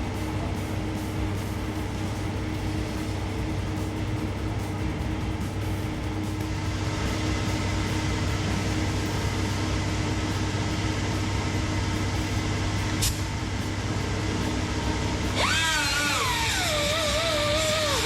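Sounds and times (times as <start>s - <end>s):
mechanical drone with whine: 0.0s - 18.0s.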